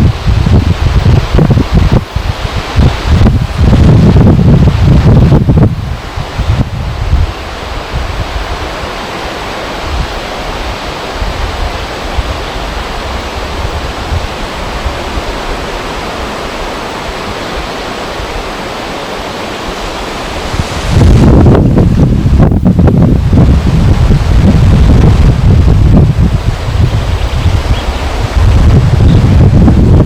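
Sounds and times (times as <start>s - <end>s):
wind rumble on microphone: 0.0s - 30.0s
wind rushing: 0.0s - 30.0s
river water flowing: 0.1s - 30.0s.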